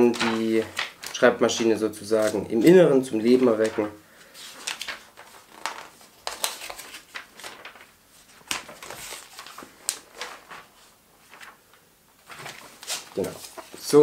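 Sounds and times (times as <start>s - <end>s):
paper rustling: 0.0s - 14.0s.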